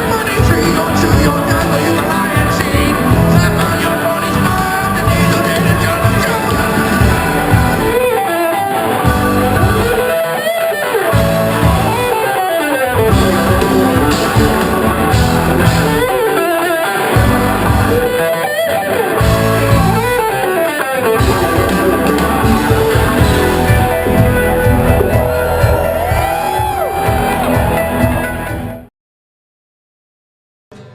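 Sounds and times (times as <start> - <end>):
rock music with electric guitar: 0.0 - 28.9.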